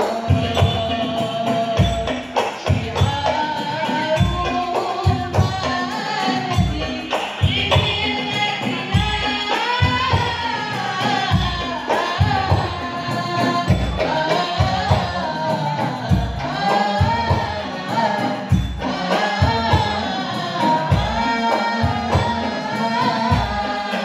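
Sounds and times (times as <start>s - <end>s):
keyboard: 0.0s - 24.0s.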